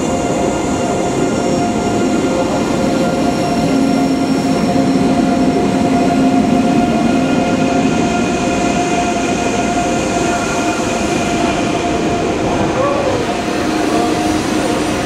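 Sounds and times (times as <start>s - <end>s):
electric train whine: 0.0s - 15.0s
train running gear rumble: 0.0s - 15.0s.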